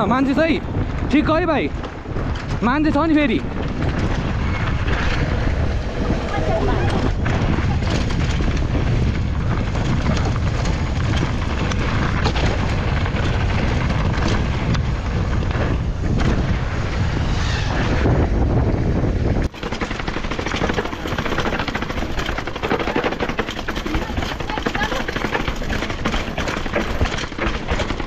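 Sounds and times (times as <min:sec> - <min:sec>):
bike rattling and knocking: 0:00.0 - 0:17.2, 0:18.5 - 0:28.0
bike tyres rumbling on trail: 0:00.0 - 0:28.0
wind buffeting microphone: 0:00.0 - 0:28.0.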